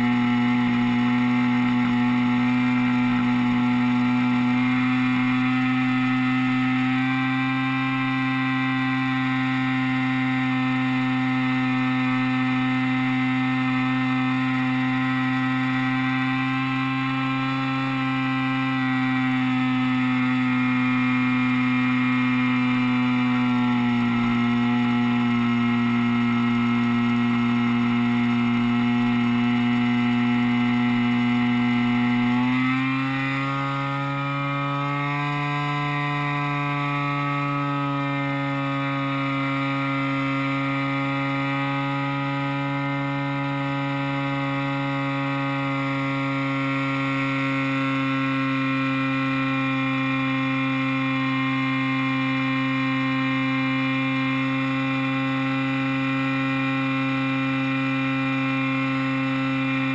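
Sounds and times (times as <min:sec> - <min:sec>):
model plane engine running: 0:00.0 - 0:59.9.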